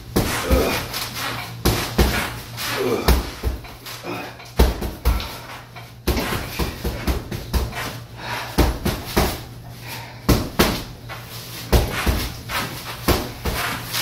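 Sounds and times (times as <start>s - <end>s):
gloves punching heavy bag: 0.0s - 9.5s, 10.3s - 10.9s, 11.6s - 14.0s.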